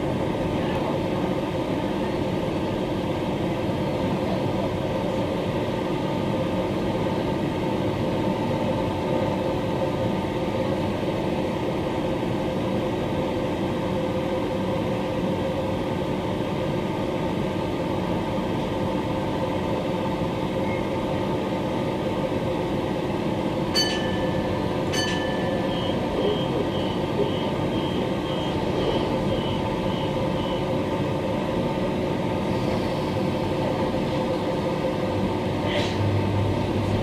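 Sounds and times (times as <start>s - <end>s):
train equipment humming: 0.0s - 37.0s.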